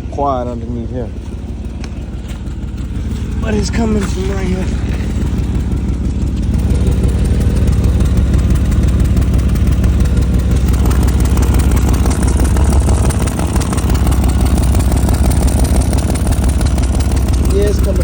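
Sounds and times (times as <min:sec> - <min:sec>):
engine idling with exhaust pulsing: 0:00.0 - 0:18.0.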